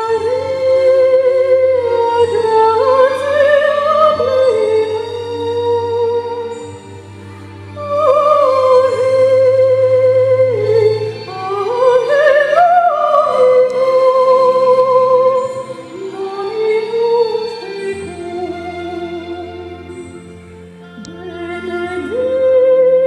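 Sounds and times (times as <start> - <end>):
low held accompaniment: 0.0 - 23.0
operatic singing high voice: 0.0 - 23.0.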